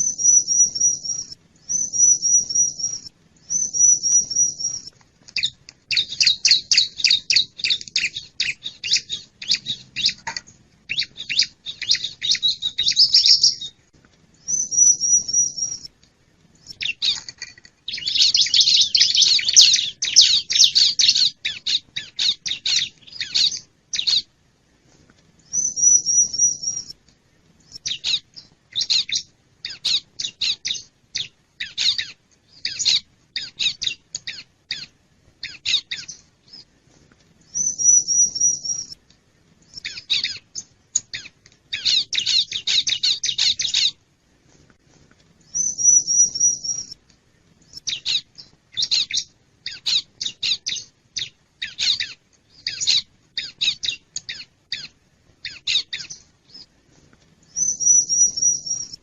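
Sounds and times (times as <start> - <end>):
bird chips and trills: 0.0 - 13.8, 14.4 - 15.9, 16.6 - 24.3, 25.4 - 27.0, 27.7 - 36.7, 37.5 - 39.0, 39.7 - 44.0, 45.5 - 47.0, 47.6 - 56.7, 57.5 - 59.0.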